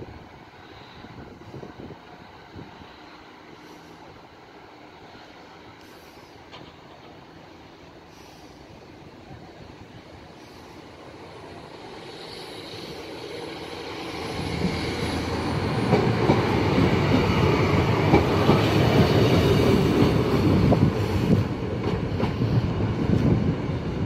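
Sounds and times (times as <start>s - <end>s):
train engine passing: 0.0s - 24.0s.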